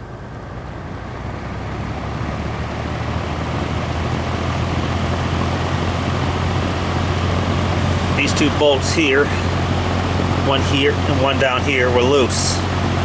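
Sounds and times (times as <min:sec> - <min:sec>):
box fan motor hum and air rush: 0:00.0 - 0:13.0.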